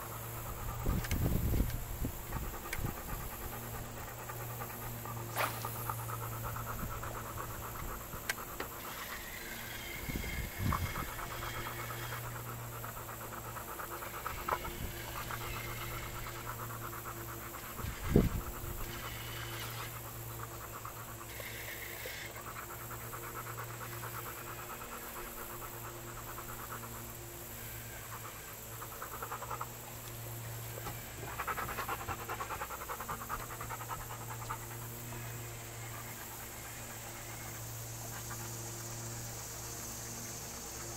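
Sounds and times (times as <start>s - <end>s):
dog panting fast: 0.0s - 40.9s.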